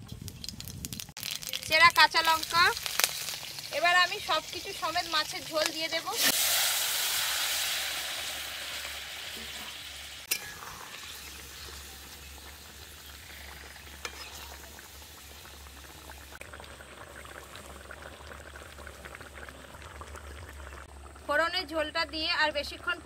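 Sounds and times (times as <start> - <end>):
curry sizzling in hot oil: 0.0 - 21.2.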